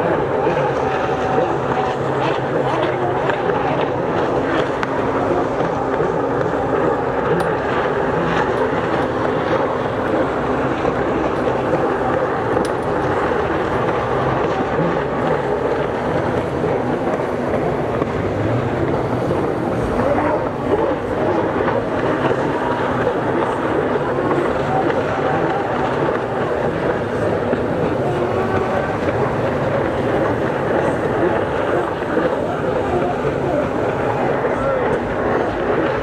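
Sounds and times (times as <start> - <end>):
jet ski engines droning: 0.0 - 36.0.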